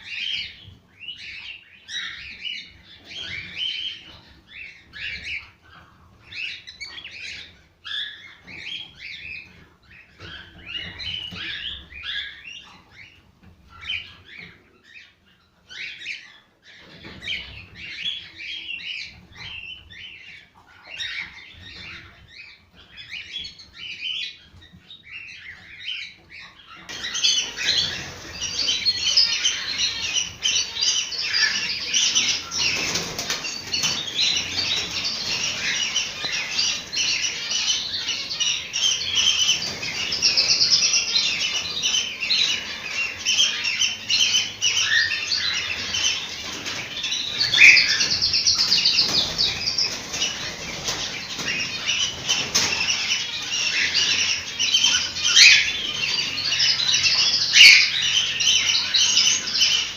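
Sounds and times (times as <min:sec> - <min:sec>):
cockatiels chirping and whistling: 0:00.0 - 0:59.9.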